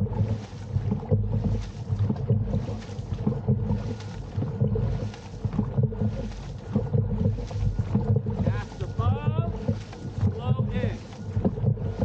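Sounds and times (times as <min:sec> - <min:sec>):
paddles rushing through water: 0:00.0 - 0:12.0
steady low rumble: 0:00.0 - 0:12.0.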